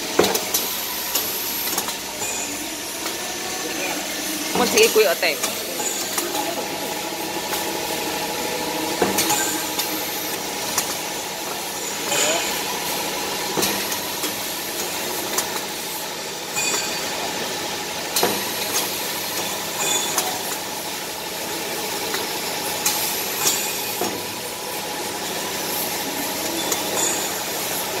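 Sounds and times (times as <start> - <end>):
machine humming and hissing: 0.0 - 28.0.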